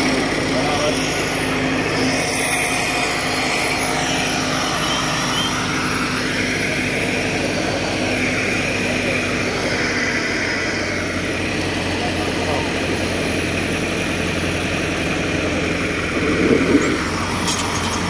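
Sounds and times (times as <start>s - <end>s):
tractor diesel engines running: 0.0s - 18.0s.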